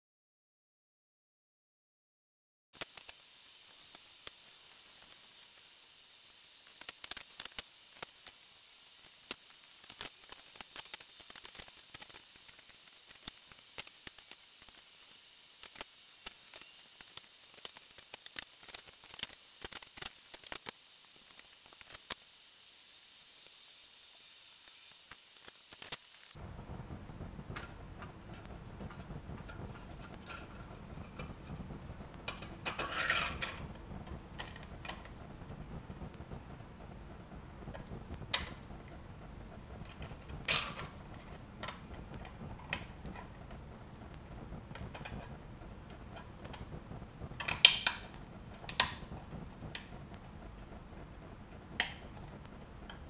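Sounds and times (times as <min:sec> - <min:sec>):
faint hiss: 0:02.8 - 0:53.0.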